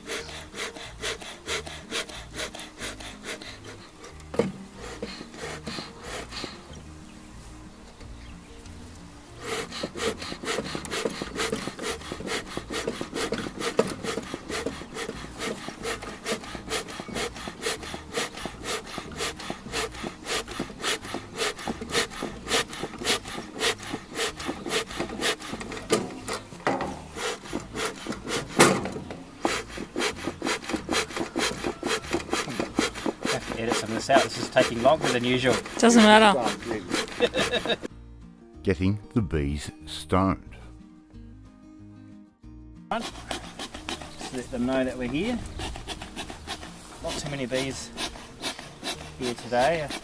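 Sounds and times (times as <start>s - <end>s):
bee smoker bellows pumping: 0.0s - 6.8s, 9.2s - 37.9s, 42.9s - 50.0s.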